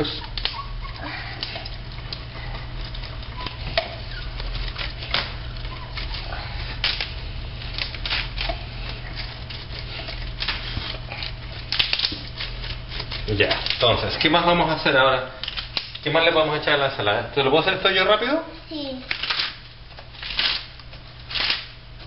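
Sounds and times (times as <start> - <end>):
lettuce leaves tearing: 0.0 - 16.2, 18.8 - 22.0
low steady hum: 0.0 - 22.0.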